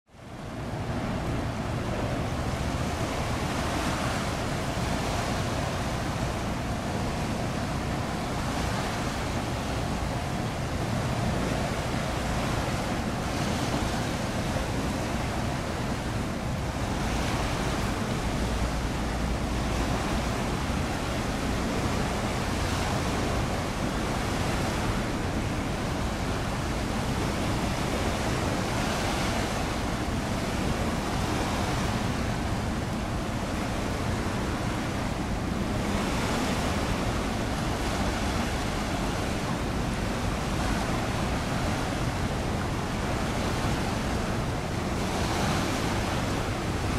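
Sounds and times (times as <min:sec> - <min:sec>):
sea water rushing: 0:00.1 - 0:46.9.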